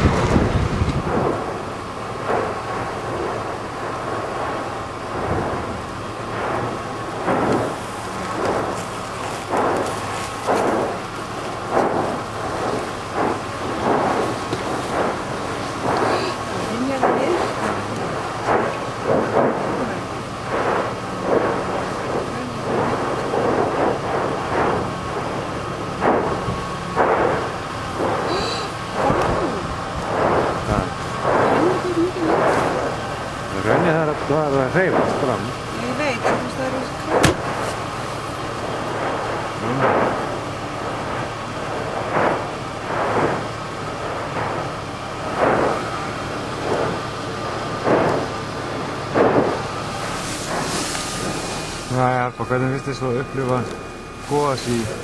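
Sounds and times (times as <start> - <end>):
lava fountain bursting: 0.0 - 55.0.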